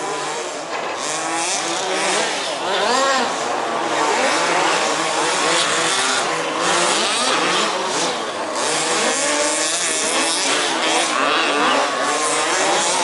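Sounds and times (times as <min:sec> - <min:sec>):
remote-control car engines revving: 0:00.0 - 0:13.0.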